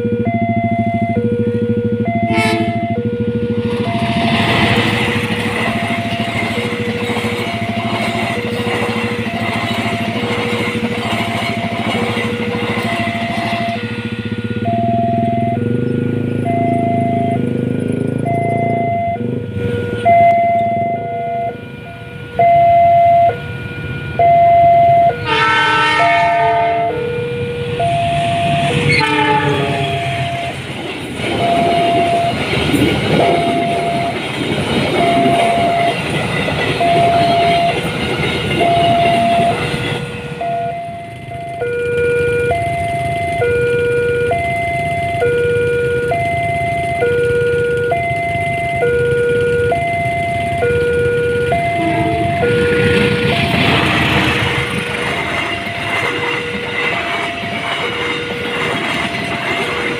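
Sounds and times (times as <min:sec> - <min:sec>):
level crossing alarm two tones: 0:00.0 - 0:08.6, 0:13.0 - 0:17.6, 0:18.2 - 0:30.6, 0:31.2 - 0:54.4
train rumbling with wheel noise: 0:00.0 - 0:59.9.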